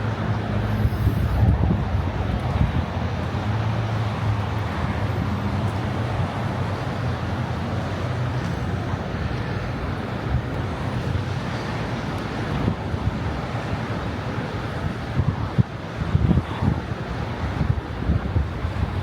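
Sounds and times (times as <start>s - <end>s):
low engine hum: 0.0s - 19.0s
road traffic noise: 0.0s - 19.0s.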